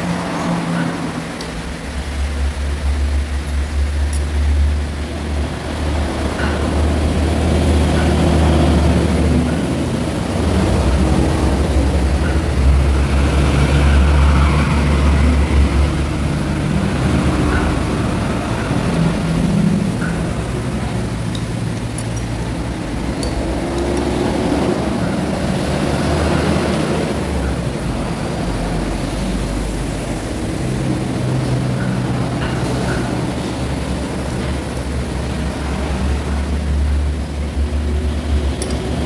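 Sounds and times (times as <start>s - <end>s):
heavy road traffic rumble: 0.0s - 39.0s.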